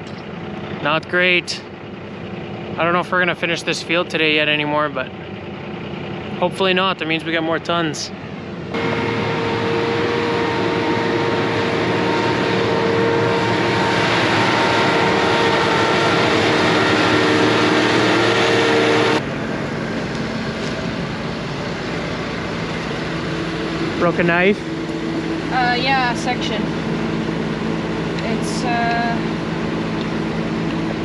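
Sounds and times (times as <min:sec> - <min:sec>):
engine idling: 0:00.0 - 0:31.0
farm machine running with whine: 0:00.0 - 0:31.0.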